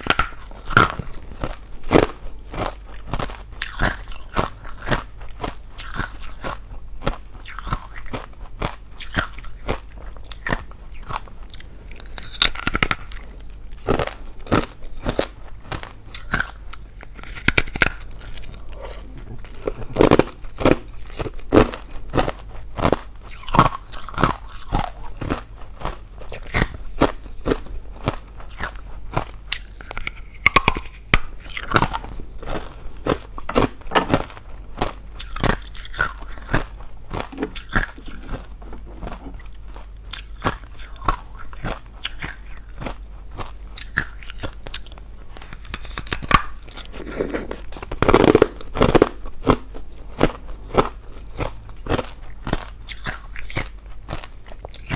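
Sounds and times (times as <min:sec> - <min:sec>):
chewing brittle ice: 0:00.0 - 0:54.9.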